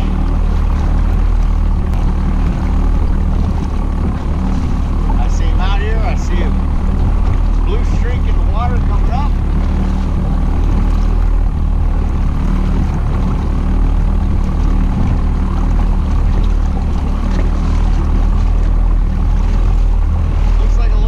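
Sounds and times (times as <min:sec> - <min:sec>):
boat engine humming: 0:00.0 - 0:21.0
wind and water rushing: 0:00.0 - 0:21.0.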